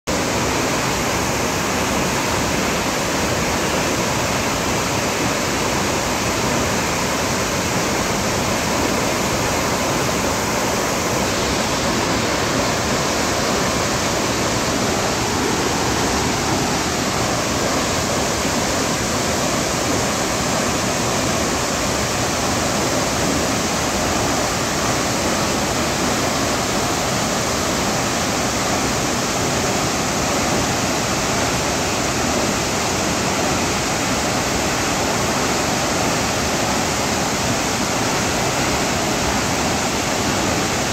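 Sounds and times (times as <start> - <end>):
waterfall rushing: 0.1 - 40.9.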